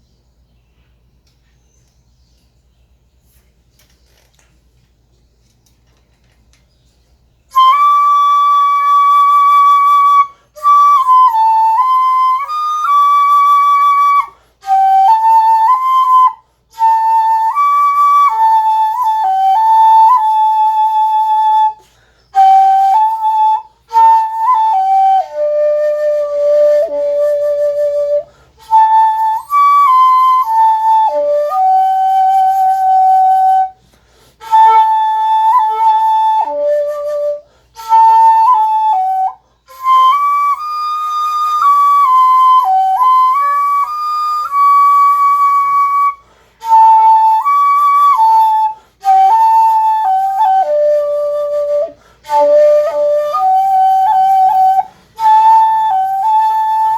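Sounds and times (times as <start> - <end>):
bamboo flute playing high notes: 7.5 - 56.9.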